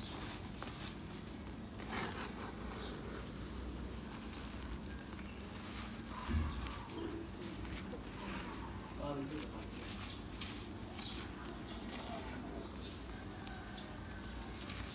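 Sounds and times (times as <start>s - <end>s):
hand raking through dry dirt: 0.0s - 14.9s.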